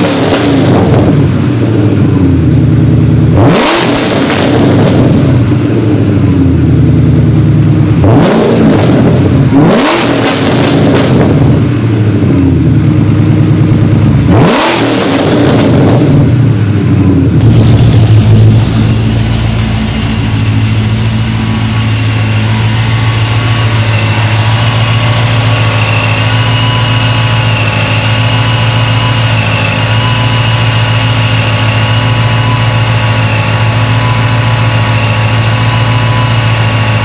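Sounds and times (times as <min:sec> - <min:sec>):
supercharger whine: 0:00.0 - 0:37.0
car engine idling: 0:00.2 - 0:03.6, 0:04.6 - 0:09.9, 0:11.2 - 0:37.0.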